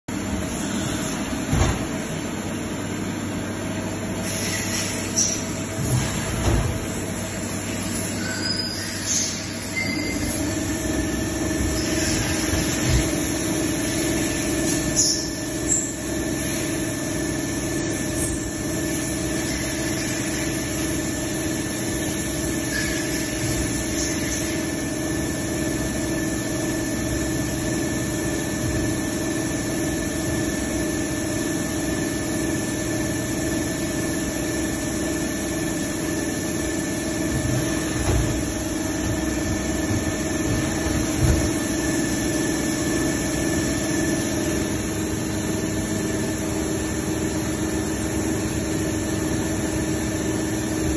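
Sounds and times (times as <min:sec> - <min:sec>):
lathe machine hum and whine: 0:00.1 - 0:50.9.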